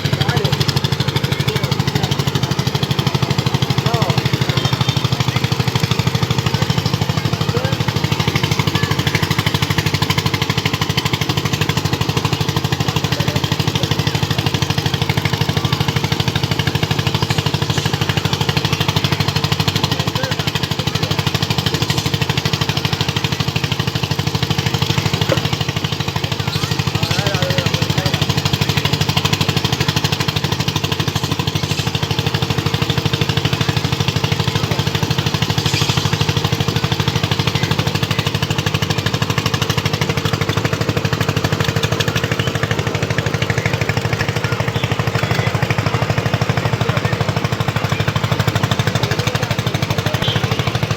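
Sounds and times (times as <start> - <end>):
engine running with low hum: 0.0 - 50.9.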